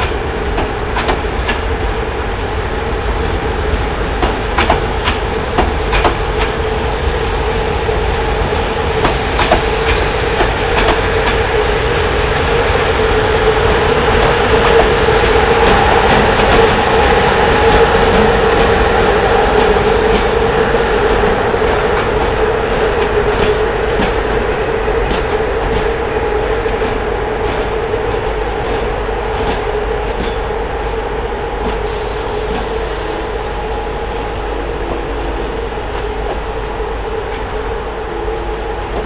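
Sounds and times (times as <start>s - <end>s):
train wheels clicking over rail joints: 0.0s - 2.6s, 3.2s - 6.8s, 7.5s - 33.2s.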